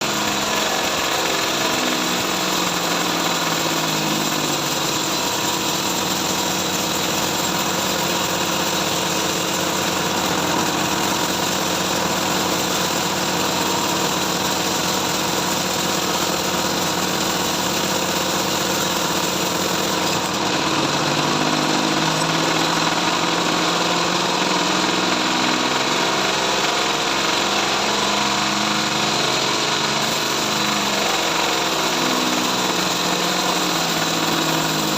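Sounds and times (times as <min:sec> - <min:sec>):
bandsaw mill sawing wood: 0:00.0 - 0:34.9.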